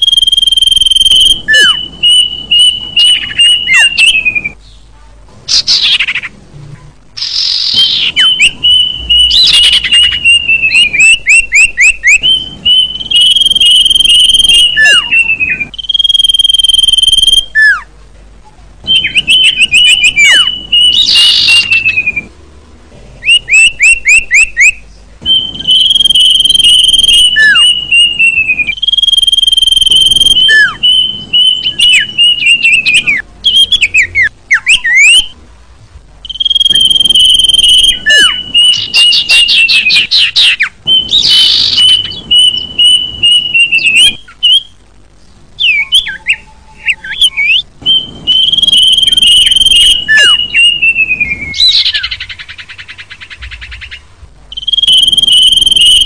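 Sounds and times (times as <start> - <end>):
birdsong whistles and trills: 0.0 - 4.9, 5.5 - 6.4, 7.2 - 17.9, 18.8 - 22.4, 23.2 - 35.4, 36.2 - 56.0.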